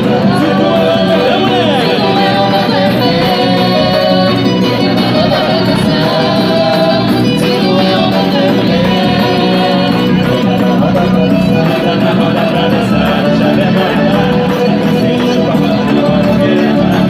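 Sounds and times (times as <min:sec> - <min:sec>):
folk dance music with singing: 0:00.0 - 0:17.0.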